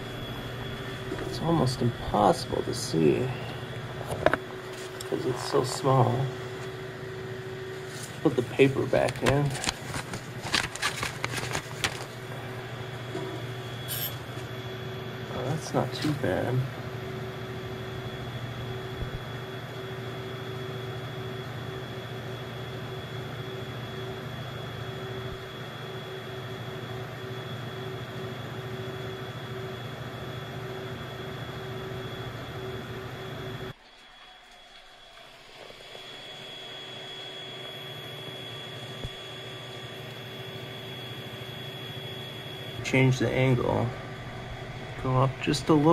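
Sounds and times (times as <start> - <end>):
cooling fan running: 0.0 - 45.9
high whine: 0.0 - 45.9.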